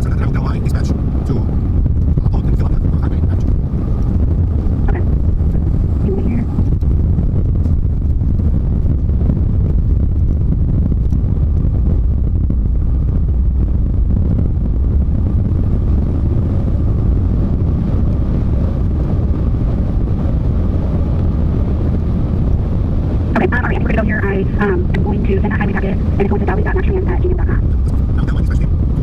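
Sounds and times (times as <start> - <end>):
road noise: 0.0 - 29.0
truck engine rumble: 0.0 - 29.0.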